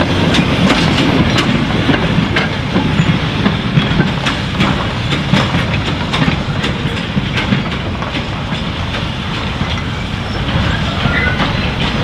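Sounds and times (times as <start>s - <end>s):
goods wagons rolling rumble: 0.0s - 12.0s
wheel clicks over rail joints: 0.0s - 12.0s.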